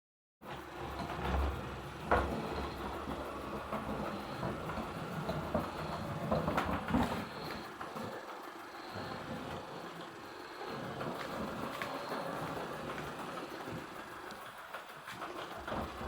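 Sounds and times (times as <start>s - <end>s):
robot vacuum cleaner running: 0.4s - 16.0s.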